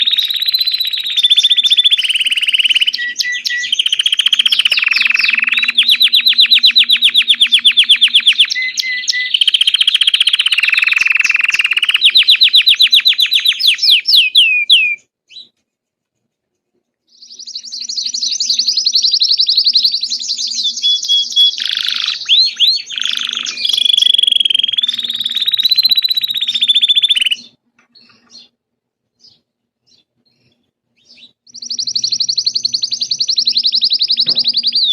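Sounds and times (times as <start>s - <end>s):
canary singing trills: 0.0s - 15.5s, 17.1s - 28.6s, 29.2s - 34.9s.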